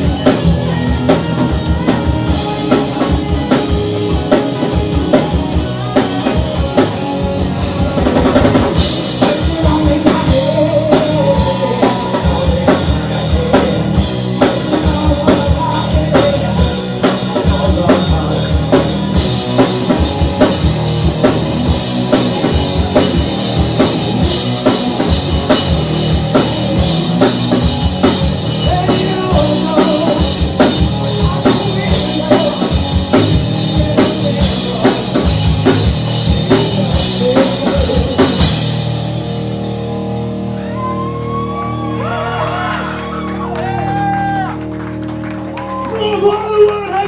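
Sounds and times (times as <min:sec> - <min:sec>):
distorted electric guitars: 0:00.0 - 0:47.0
drum kit beats: 0:00.0 - 0:47.0.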